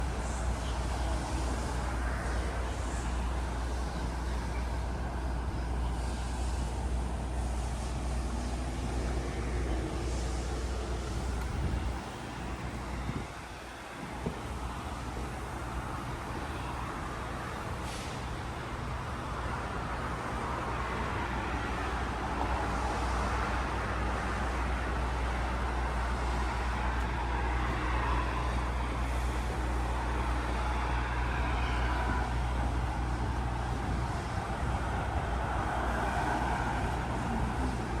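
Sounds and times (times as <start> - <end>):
low engine drone: 0.0 - 38.0
rushing noise: 0.0 - 38.0.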